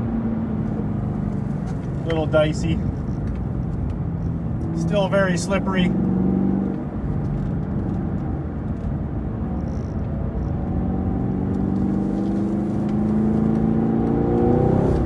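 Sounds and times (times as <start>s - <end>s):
car engine: 0.0s - 15.0s
road and tyre noise: 0.0s - 15.0s.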